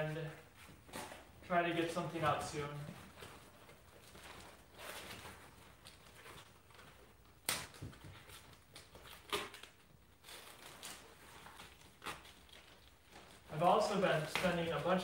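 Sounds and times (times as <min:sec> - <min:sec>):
rustling of foam and plastic packing: 0:00.0 - 0:15.0.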